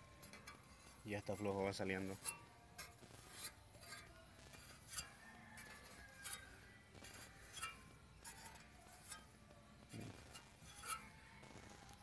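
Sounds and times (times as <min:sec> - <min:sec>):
faint metallic clinks: 0:00.0 - 0:12.0.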